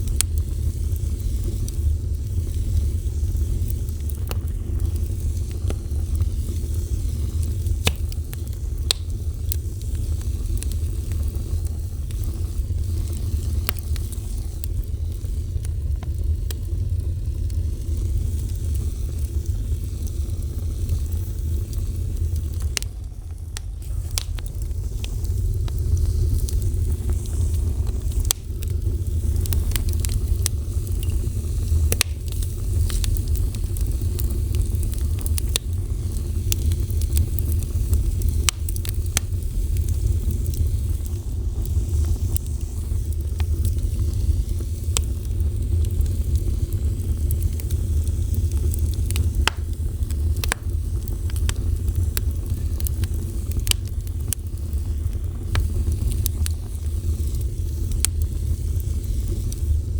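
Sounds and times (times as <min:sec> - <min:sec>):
fire crackles and pops: 0:00.0 - 0:59.9
wood fire roaring: 0:00.0 - 0:59.9.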